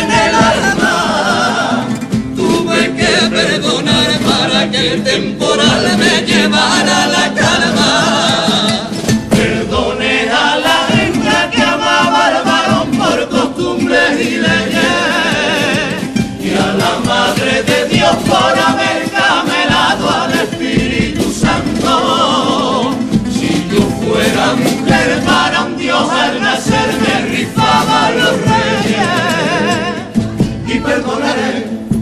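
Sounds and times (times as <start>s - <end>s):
male chorus singing: 0.0s - 32.0s.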